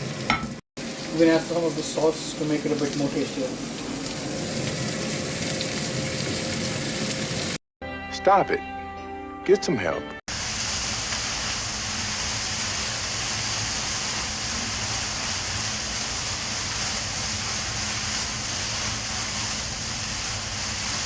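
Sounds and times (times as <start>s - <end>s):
food sizzling in a hot pan: 0.0s - 7.6s, 10.3s - 21.0s.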